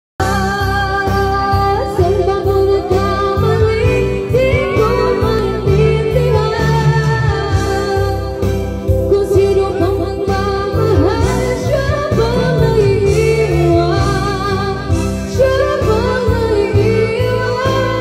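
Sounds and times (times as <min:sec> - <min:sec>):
backing track with steady beat: 0:00.2 - 0:18.0
person singing into microphone: 0:00.2 - 0:18.0.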